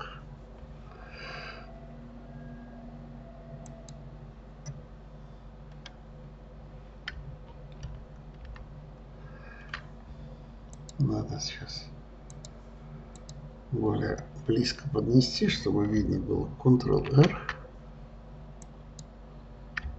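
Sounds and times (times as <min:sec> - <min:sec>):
low steady hum: 0:00.0 - 0:19.9.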